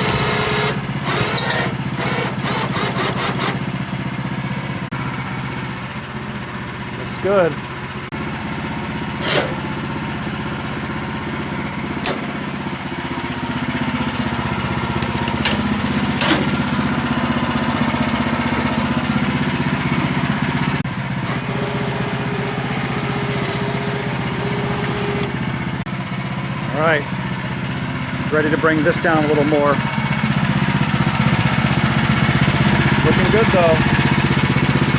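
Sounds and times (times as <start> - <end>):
sawmill engine running under load: 0.0 - 34.9.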